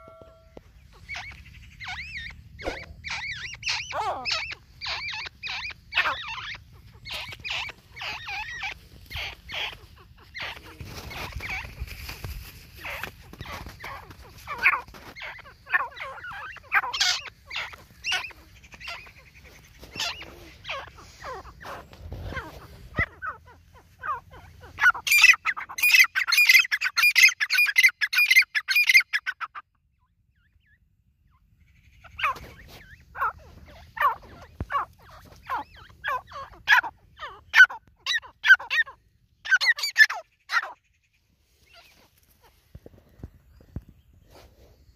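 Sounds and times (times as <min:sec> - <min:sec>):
francolin calling: 0:00.0 - 0:11.9, 0:12.7 - 0:29.7, 0:30.4 - 0:42.6.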